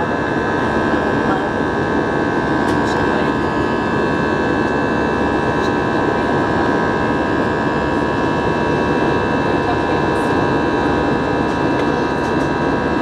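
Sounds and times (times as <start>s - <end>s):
jet engines and airflow rushing: 0.0s - 13.0s.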